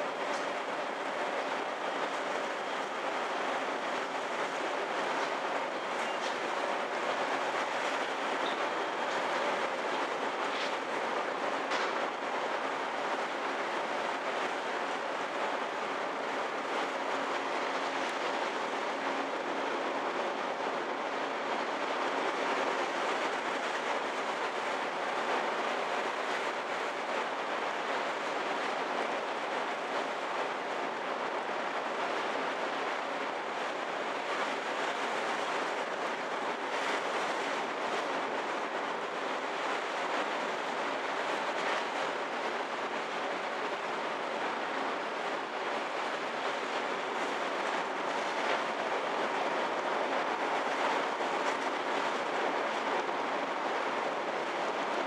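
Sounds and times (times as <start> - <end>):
ship rumble: 0.0 - 55.0.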